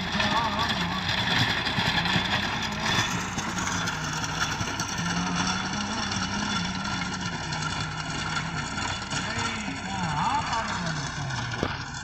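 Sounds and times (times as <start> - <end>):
rotavator rushing through soil: 0.0 - 12.0
tractor engine running: 0.0 - 12.0.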